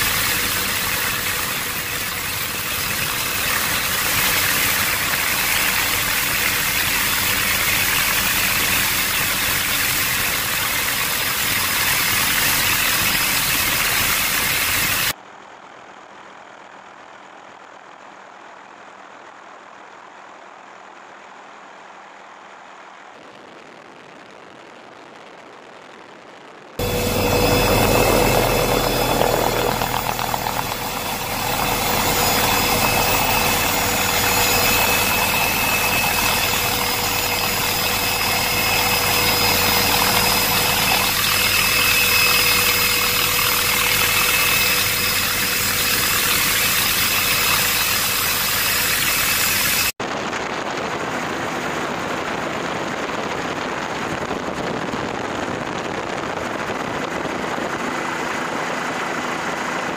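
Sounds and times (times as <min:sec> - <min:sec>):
helicopter engine and rotor drone: 0:00.0 - 0:15.2, 0:26.8 - 0:59.9
high steady whine: 0:00.0 - 0:59.9.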